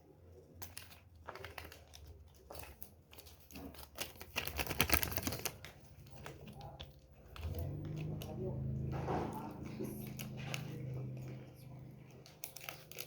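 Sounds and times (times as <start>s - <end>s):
crinkling and rustling handling: 0.0s - 13.0s.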